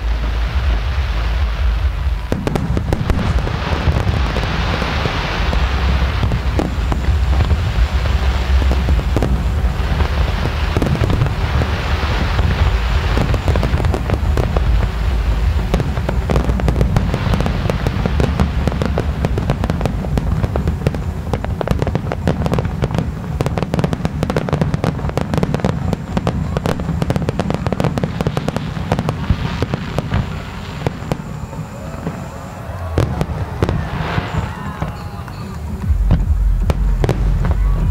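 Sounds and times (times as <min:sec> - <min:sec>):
firework shells booming: 0:00.0 - 0:37.9
fireworks crackling: 0:00.0 - 0:37.9
fireworks hissing: 0:00.0 - 0:37.9.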